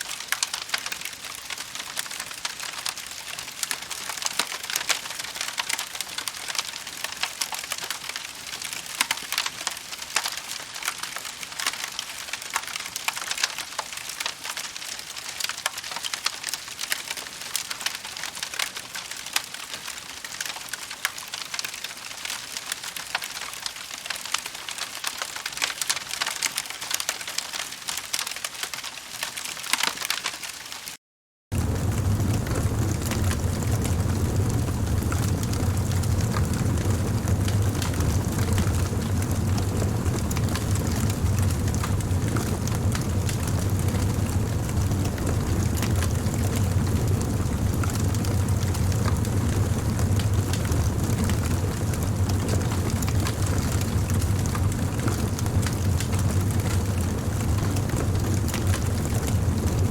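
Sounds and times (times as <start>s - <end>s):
campfire crackling: 0.0s - 28.8s, 31.5s - 59.9s.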